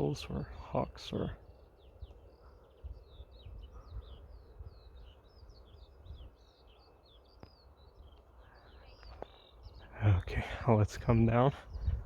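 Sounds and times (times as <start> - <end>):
songbirds chirping: 0.0 - 12.0
wind rumbling on microphone: 1.3 - 8.2, 8.9 - 12.0.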